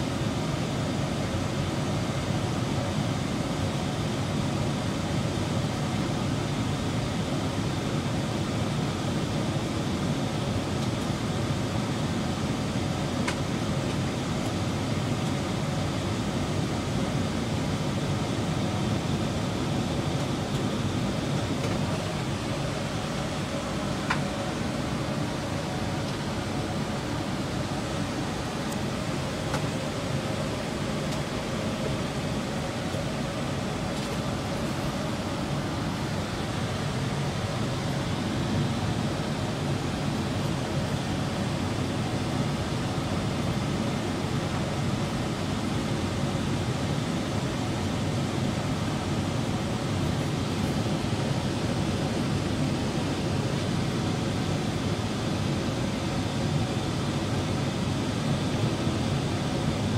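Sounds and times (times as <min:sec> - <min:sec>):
airliner cabin engine rush: 0:00.0 - 0:59.9.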